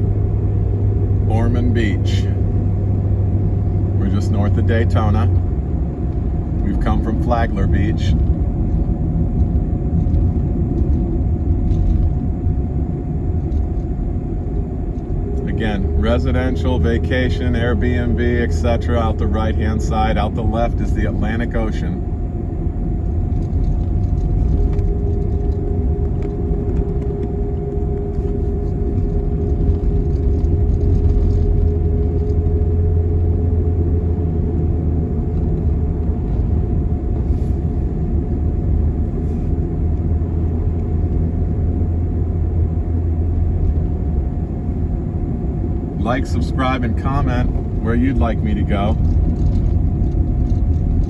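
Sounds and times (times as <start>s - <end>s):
faint steady whine: 0.0s - 51.0s
vehicle cabin road rumble: 0.0s - 51.0s.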